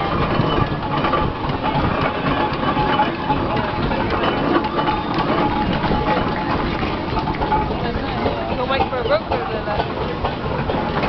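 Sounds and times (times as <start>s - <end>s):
steam engine mechanical knocking: 0.0s - 11.0s.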